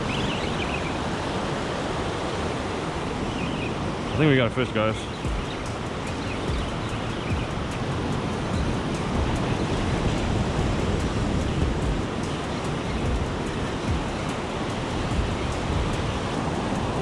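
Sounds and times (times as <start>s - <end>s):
ocean surf washing up beach: 0.0s - 17.0s
wind rumbling on microphone: 0.0s - 17.0s.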